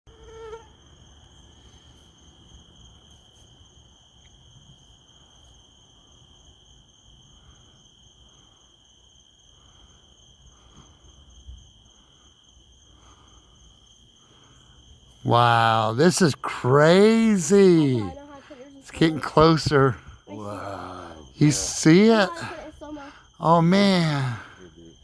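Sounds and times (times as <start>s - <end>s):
crickets trilling: 0.2s - 25.0s.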